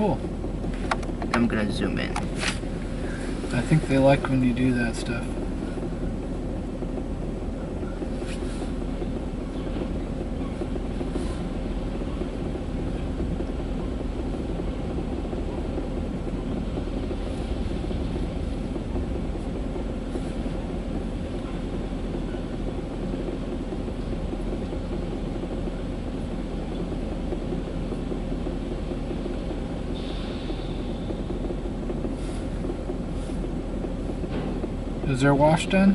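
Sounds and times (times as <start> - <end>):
car wash rumble and hiss: 0.0 - 35.9.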